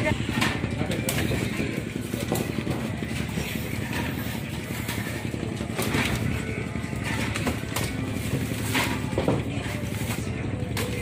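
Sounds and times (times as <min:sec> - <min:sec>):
handling knocks and rustles: 0:00.2 - 0:11.0.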